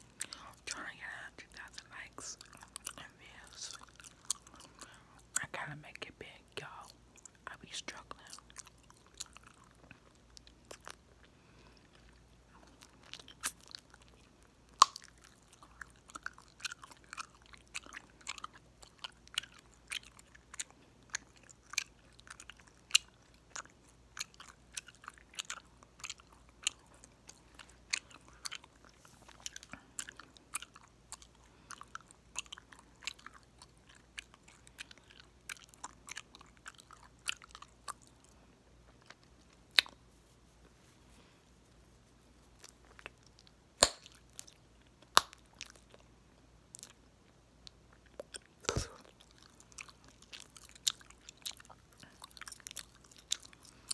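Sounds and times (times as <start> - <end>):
gum chewing clicks and pops: 0.1 - 40.0, 42.6 - 53.9.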